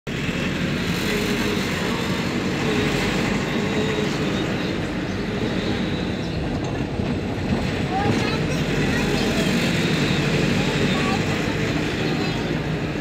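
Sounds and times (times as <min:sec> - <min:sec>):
vehicle road and engine noise: 0:00.1 - 0:13.0.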